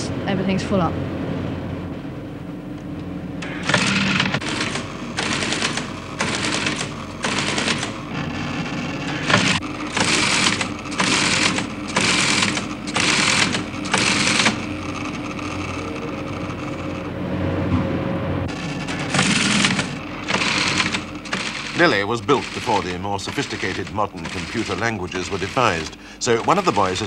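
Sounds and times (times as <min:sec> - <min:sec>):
machine hum: 0:00.0 - 0:27.0
teleprinter clattering: 0:03.4 - 0:17.0, 0:18.5 - 0:27.0.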